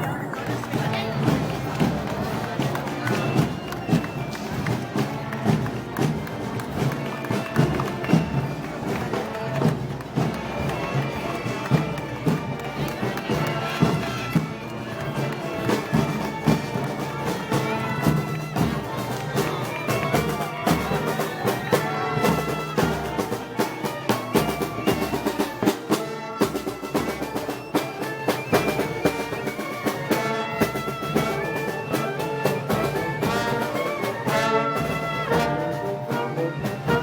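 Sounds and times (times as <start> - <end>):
brass band playing: 0.0 - 37.0
drums and cymbals: 0.1 - 37.0.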